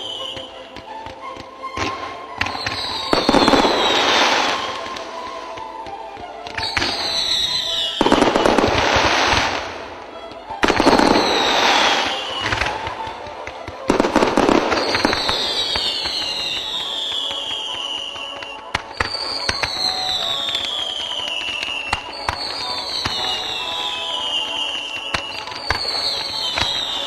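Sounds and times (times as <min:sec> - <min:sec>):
firework whistles: 0:00.0 - 0:00.6, 0:01.7 - 0:09.9, 0:10.6 - 0:27.0
firework crackling bursts: 0:00.0 - 0:27.0.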